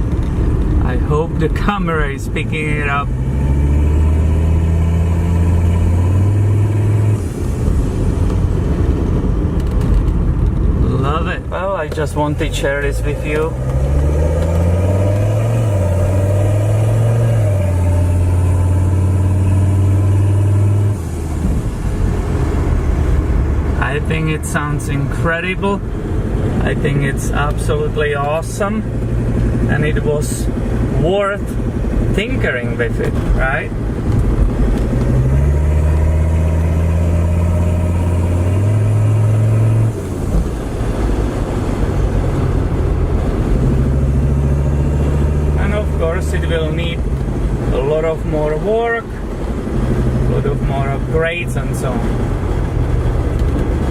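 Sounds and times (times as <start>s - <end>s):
diesel engine drone in cabin: 0.0s - 53.9s.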